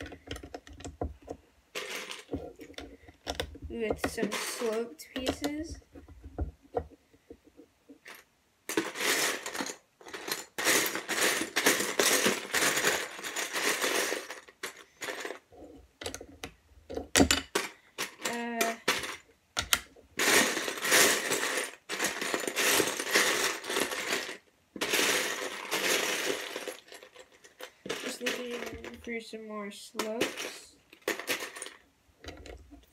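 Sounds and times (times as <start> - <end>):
plastic bricks clattering: 0.0 - 6.9, 8.0 - 29.1, 30.0 - 32.9.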